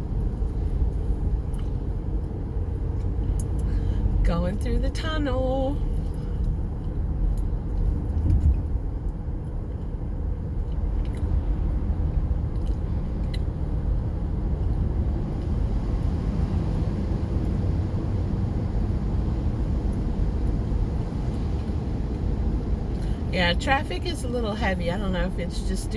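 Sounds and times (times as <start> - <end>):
tyre and engine rumble in car cabin: 0.0 - 25.9.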